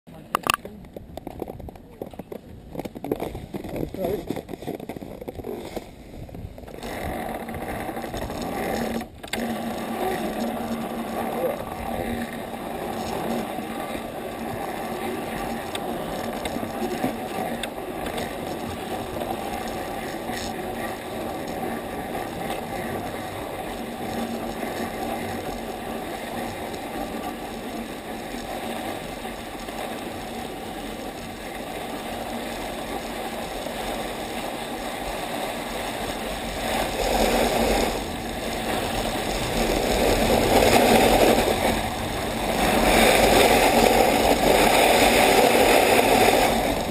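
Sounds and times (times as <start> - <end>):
sled runners scraping over snow: 0.1 - 46.9
wind on microphone: 0.3 - 46.9.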